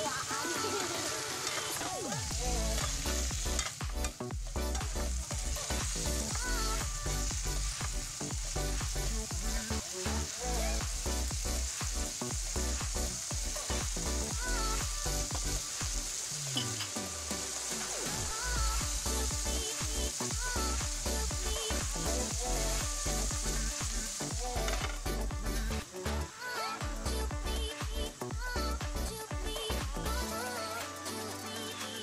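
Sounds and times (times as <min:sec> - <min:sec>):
background music with steady beat: 0:00.0 - 0:32.0
shrimp sizzling in hot oil: 0:00.0 - 0:32.0.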